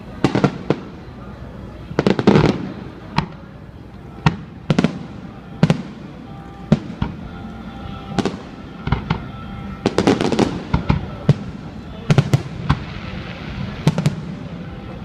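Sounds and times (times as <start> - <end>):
fireworks bangs with echo: 0.0 - 15.0.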